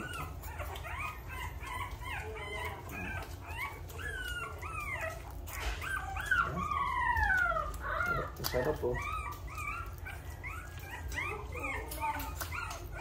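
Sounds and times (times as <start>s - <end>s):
puppies whining: 0.0s - 13.0s.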